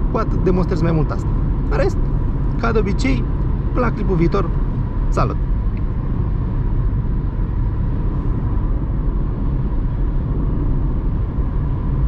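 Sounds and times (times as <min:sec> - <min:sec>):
road and tyre rumble: 0:00.0 - 0:12.0
wind noise in car cabin: 0:00.0 - 0:12.0.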